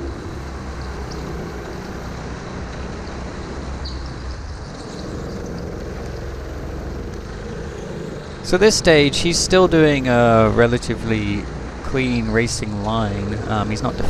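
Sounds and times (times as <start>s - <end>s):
go-kart engine droning: 0.0s - 14.0s.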